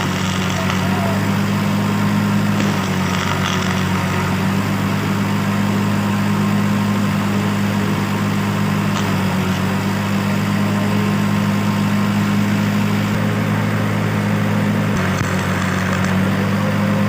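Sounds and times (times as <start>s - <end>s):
welding hiss: 0.0s - 13.8s, 14.8s - 16.9s
welding machine humming: 0.0s - 17.0s.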